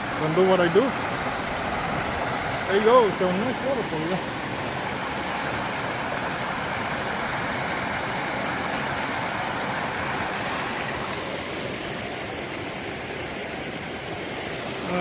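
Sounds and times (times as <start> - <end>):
creek pouring over waterfall: 0.0 - 15.0.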